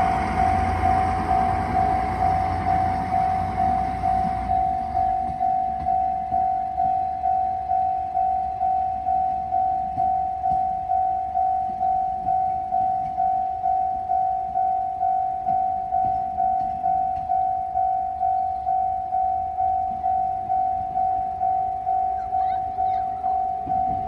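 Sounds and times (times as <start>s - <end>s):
level crossing warning bell ringing: 0.0s - 24.0s.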